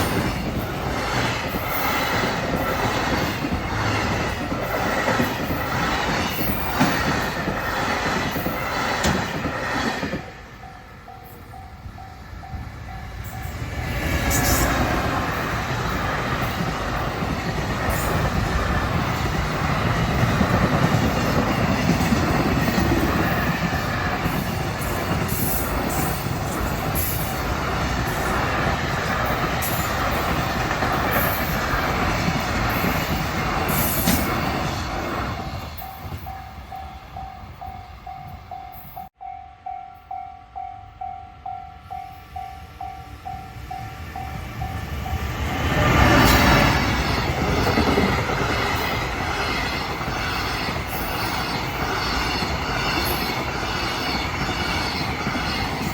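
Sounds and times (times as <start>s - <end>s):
freight train passing: 0.0s - 55.9s.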